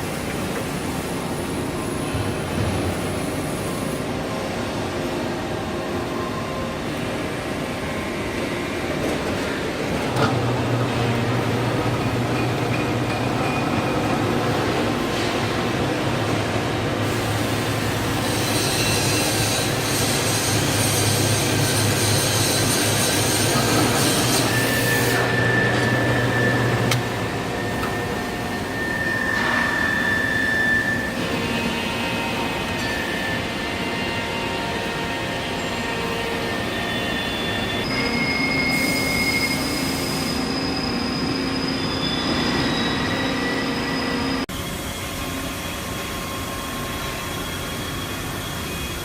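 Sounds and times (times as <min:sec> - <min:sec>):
machine humming and hissing: 0:00.0 - 0:49.0.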